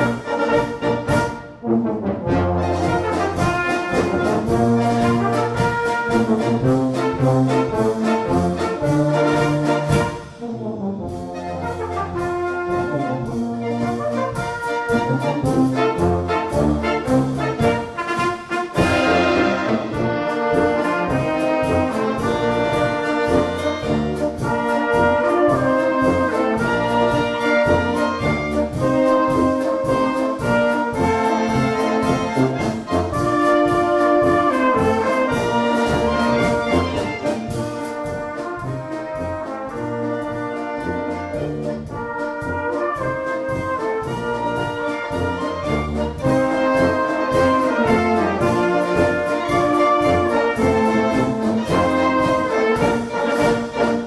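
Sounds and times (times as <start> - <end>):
brass band playing: 0.0 - 54.0.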